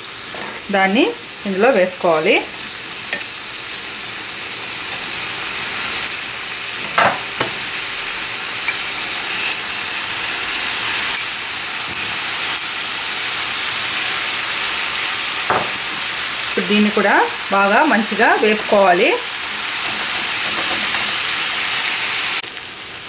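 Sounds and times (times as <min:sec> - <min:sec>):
beans sizzling in hot oil: 0:00.0 - 0:23.0.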